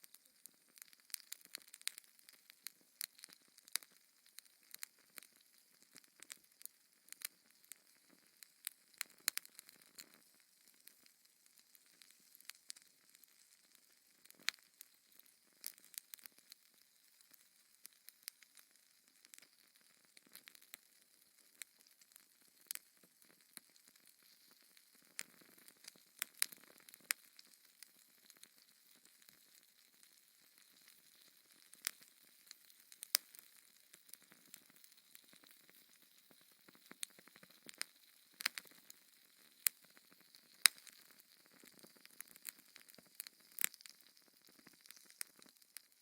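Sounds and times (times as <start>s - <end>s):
fire crackling with pops: 0.0s - 46.0s.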